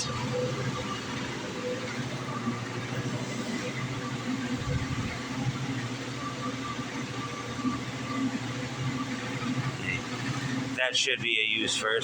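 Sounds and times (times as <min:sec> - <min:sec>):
refrigeration unit humming: 0:00.0 - 0:12.0.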